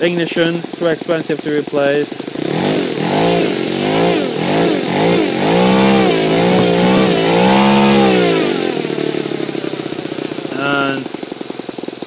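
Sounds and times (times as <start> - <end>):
model aircraft engine revving: 0.0 - 12.0.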